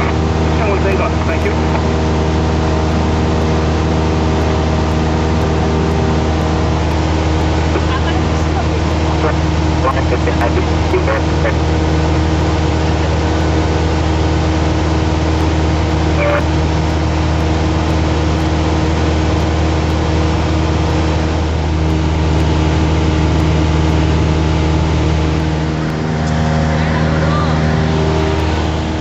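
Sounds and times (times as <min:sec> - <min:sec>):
aircraft engine and propeller droning: 0:00.0 - 0:29.0.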